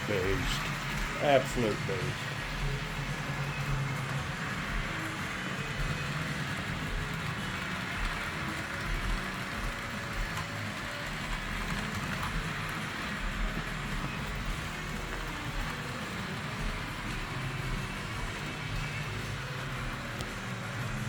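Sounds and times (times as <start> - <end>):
model train rolling rumble: 0.0 - 21.0.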